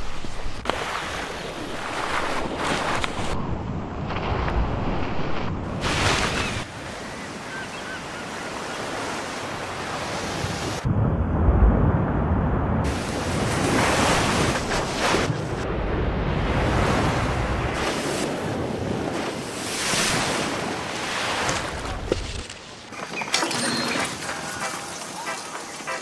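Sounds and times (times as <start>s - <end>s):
rushing water and surf: 0.0s - 23.0s, 23.8s - 26.0s.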